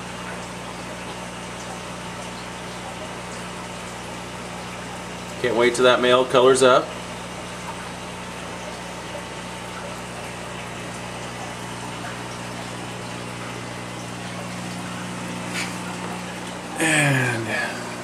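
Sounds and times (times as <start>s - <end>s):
aquarium pump hum: 0.0s - 18.0s
moving water: 0.0s - 18.0s.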